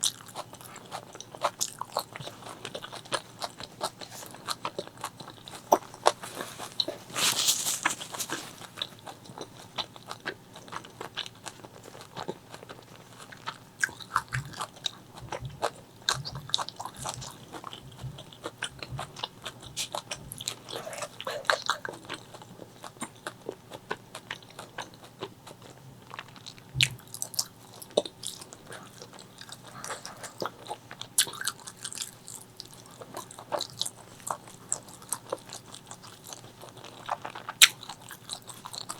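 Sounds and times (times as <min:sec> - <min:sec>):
close-miked chewing and biting: 0:00.0 - 0:38.9.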